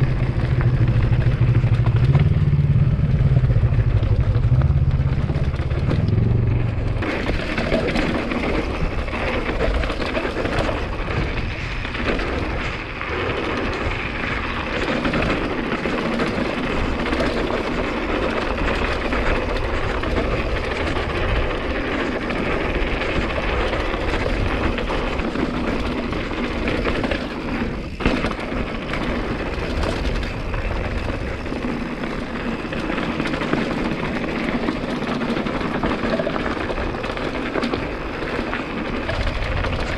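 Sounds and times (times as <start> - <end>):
bike rattling over rocky road: 0.0 - 39.9.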